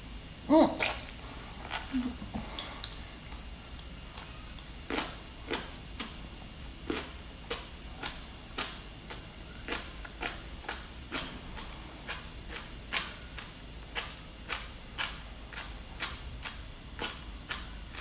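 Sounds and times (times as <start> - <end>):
wet chewing and lip-smacking: 0.8 - 6.2, 6.8 - 18.0.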